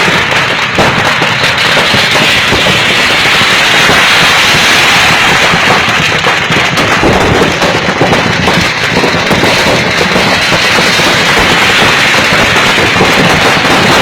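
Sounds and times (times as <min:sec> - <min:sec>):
firecrackers crackling: 0:00.0 - 0:14.0.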